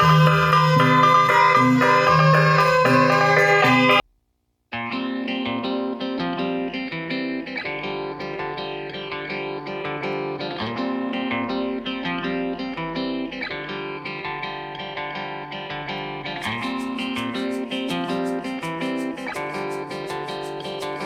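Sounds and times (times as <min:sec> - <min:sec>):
plucked string instrument music: 0:00.0 - 0:04.0, 0:04.8 - 0:21.0.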